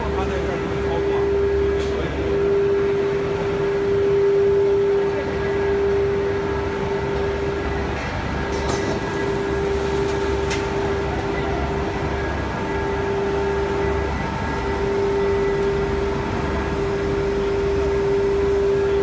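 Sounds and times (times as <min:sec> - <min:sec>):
constant machine whine: 0:00.0 - 0:19.0.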